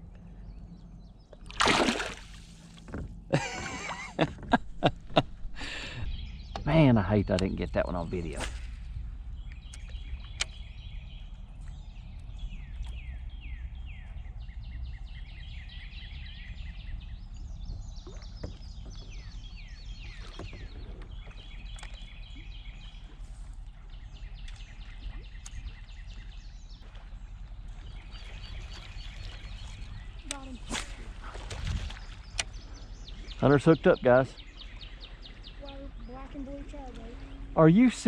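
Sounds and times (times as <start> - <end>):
songbirds singing: 0.0 - 38.0
steady low rumble: 0.0 - 38.0.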